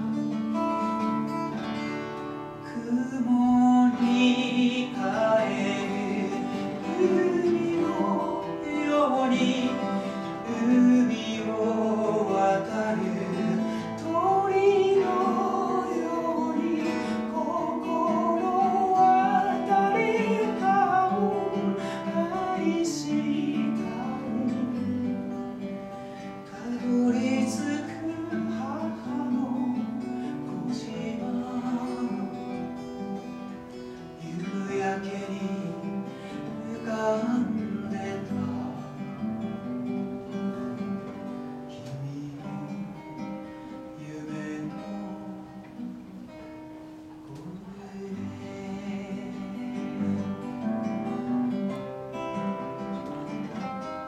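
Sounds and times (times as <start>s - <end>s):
acoustic guitar: 0.0s - 54.0s
man singing a slow song: 2.6s - 46.4s, 47.2s - 53.7s.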